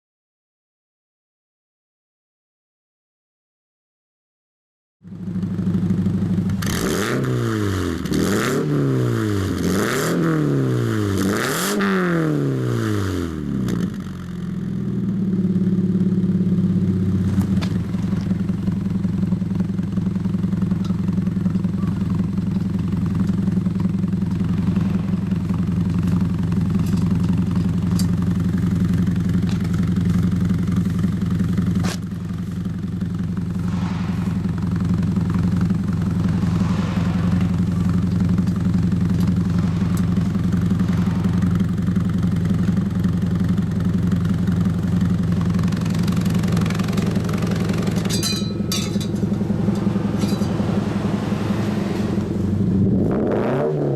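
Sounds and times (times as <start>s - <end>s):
car engine revving then idling: 5.2s - 53.9s.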